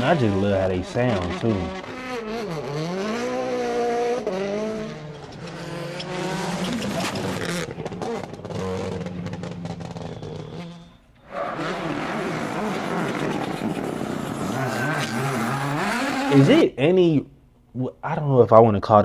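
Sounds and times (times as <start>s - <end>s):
tyre squeal: 0.0s - 16.5s
rally car engine at high revs: 0.0s - 16.6s
sharp exhaust cracks: 0.0s - 16.8s.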